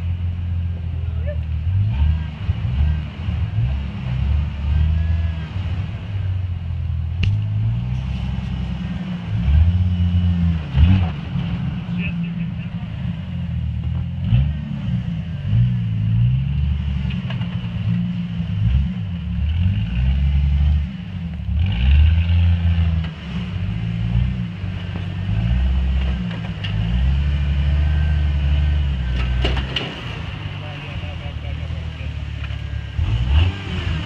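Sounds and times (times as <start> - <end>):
engine revving under load: 1.4 - 34.0.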